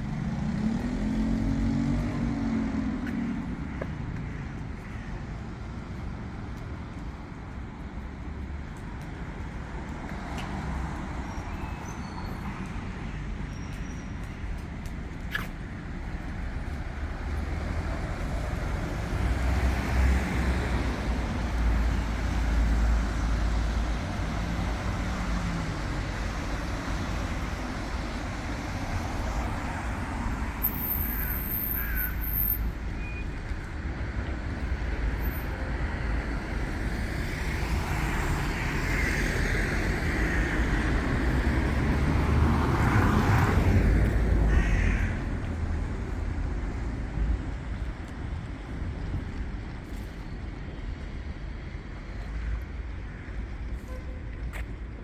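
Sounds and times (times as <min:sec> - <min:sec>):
traffic noise low rumble: 0:00.0 - 0:55.0.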